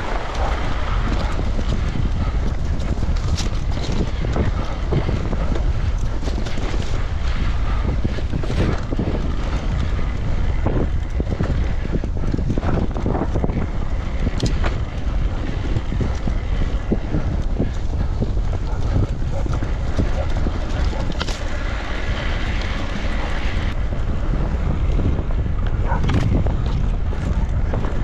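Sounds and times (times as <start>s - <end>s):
bike knocks and rattles: 0.0s - 28.0s
wind buffeting microphone: 0.0s - 28.0s.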